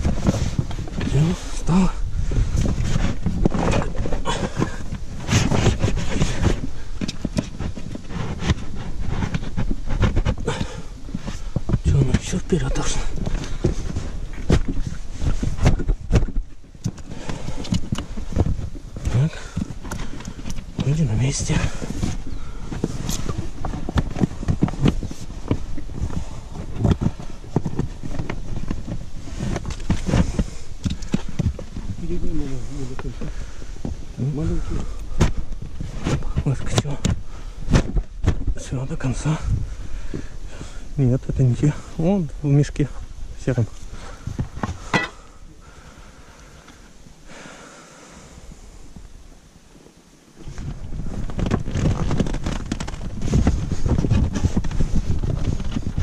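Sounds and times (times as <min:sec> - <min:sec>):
knocks and rustles: 0:00.0 - 0:40.3, 0:50.4 - 0:56.0
wind buffeting microphone: 0:00.0 - 0:47.2, 0:50.3 - 0:56.0.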